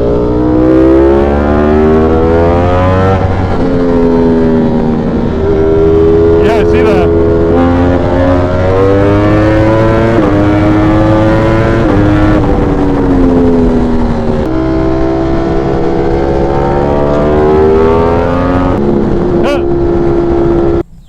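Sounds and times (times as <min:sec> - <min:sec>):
motorcycle engine: 0:00.0 - 0:21.0
wind and road noise: 0:00.0 - 0:21.0.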